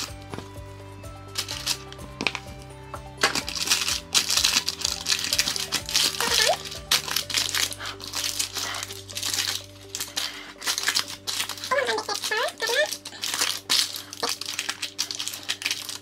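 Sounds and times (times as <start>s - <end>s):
background music: 0.0s - 16.0s
baking paper crinkling: 1.3s - 2.5s, 3.2s - 16.0s.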